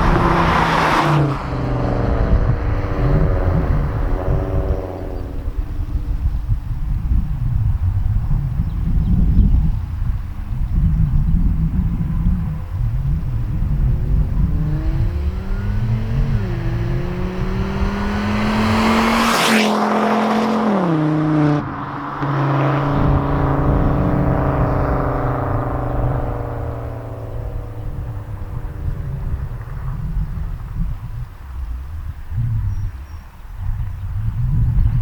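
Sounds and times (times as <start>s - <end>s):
car engine accelerating through gears: 0.0s - 35.0s
low wind rumble: 0.0s - 35.0s.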